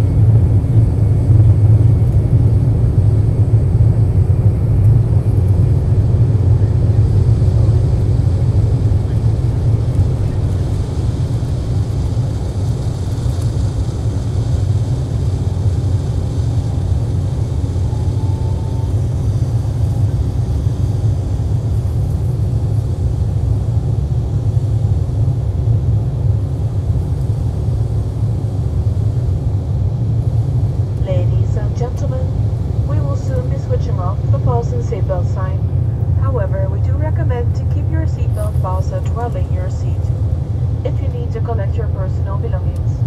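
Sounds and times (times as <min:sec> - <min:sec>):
jet engines rumbling: 0:00.0 - 0:43.0.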